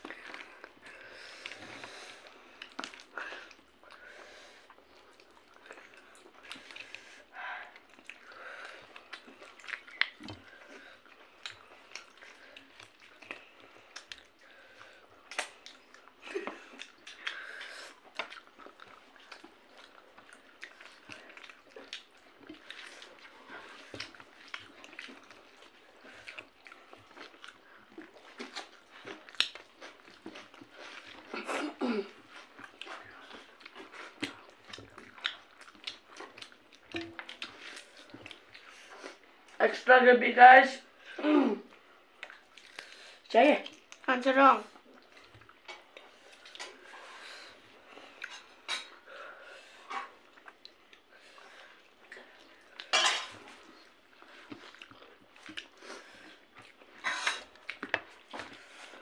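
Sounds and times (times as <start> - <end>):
chewing and lip smacks: 0.0 - 39.6, 41.7 - 59.0.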